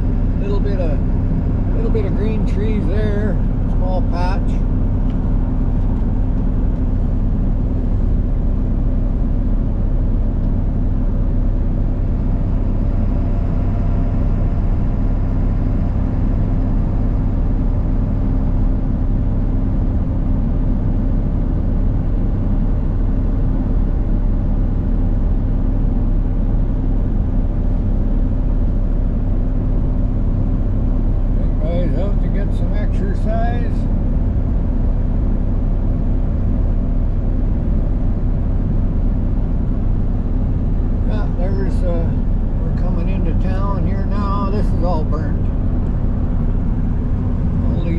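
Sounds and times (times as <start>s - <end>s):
road rumble: 0.0s - 47.9s
vehicle engine hum: 0.0s - 47.9s.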